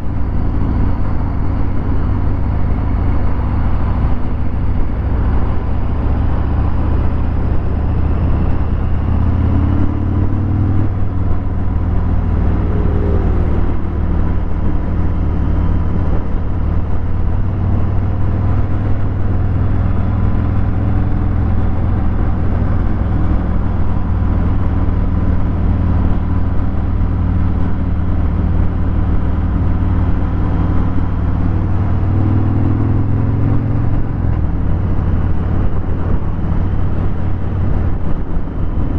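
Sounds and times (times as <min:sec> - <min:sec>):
motorcycle engine deep rumble: 0:00.0 - 0:38.9.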